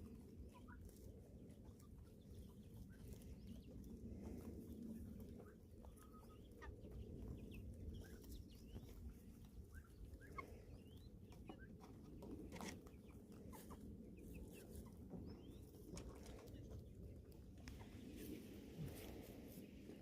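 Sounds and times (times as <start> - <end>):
chickens clucking: 0.0 - 20.0
steady low rumble: 0.0 - 20.0.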